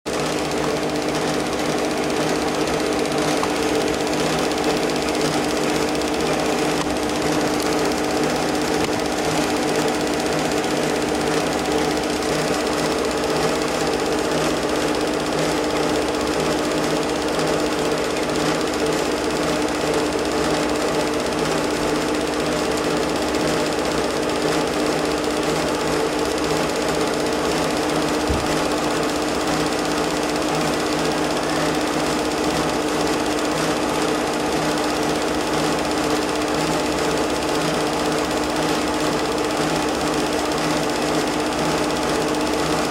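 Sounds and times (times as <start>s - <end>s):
film projector running: 0.1s - 42.9s.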